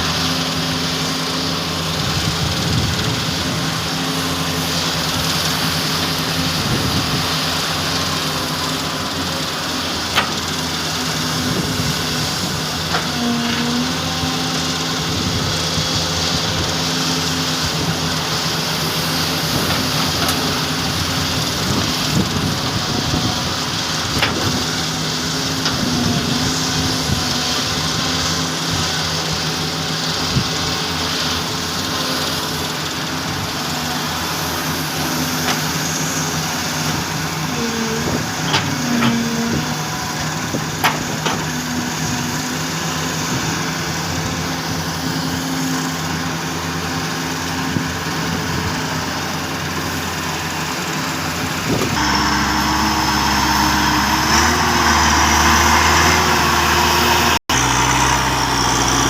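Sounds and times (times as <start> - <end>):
excavator diesel engines: 0.0 - 59.0.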